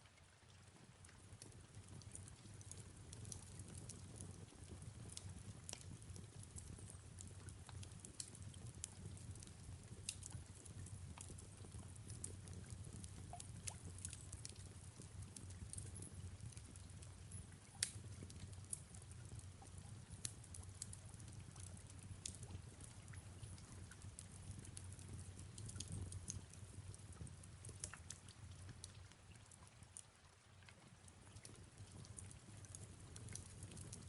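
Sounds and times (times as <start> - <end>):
soft rain falling: 0.0 - 34.0
fireplace crackling: 1.0 - 34.0.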